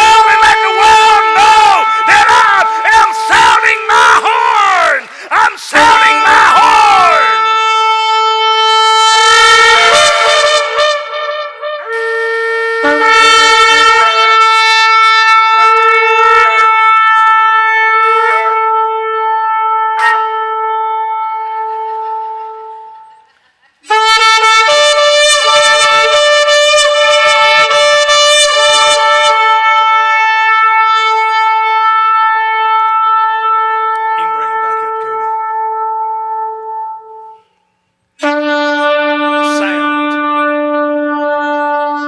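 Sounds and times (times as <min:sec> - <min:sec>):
horn blasts: 0:00.0 - 0:23.0, 0:23.9 - 0:42.0.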